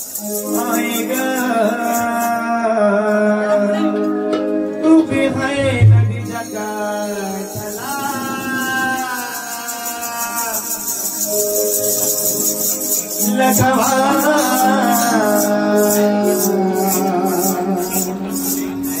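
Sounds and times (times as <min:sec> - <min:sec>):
shaking percussion: 0:00.0 - 0:02.6, 0:05.4 - 0:19.0
devotional music: 0:00.0 - 0:19.0.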